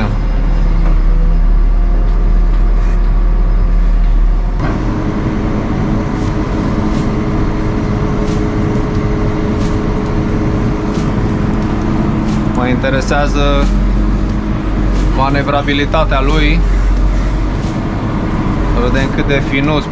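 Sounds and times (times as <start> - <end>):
deep hum: 0.0 - 19.9
diesel engine running: 0.0 - 19.9.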